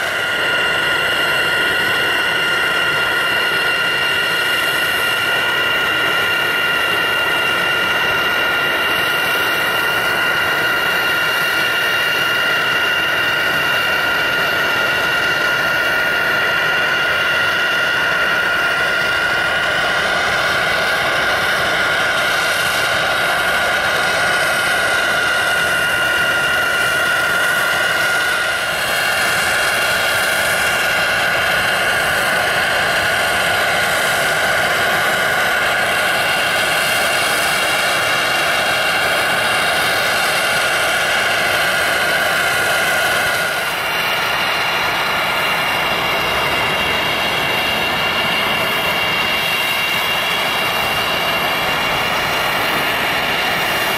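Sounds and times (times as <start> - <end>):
jet engine whine and rush: 0.0 - 53.9.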